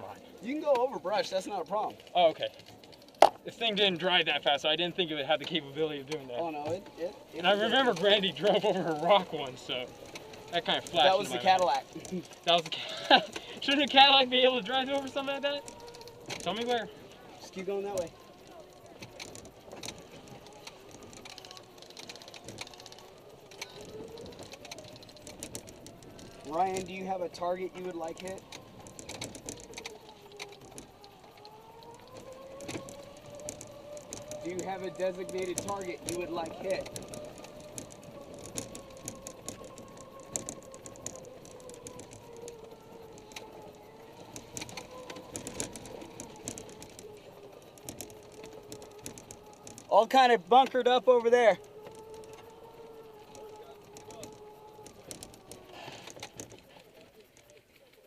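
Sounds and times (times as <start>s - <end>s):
golf cart moving: 0.0s - 58.0s
sharp clicks and rattles: 0.0s - 58.0s.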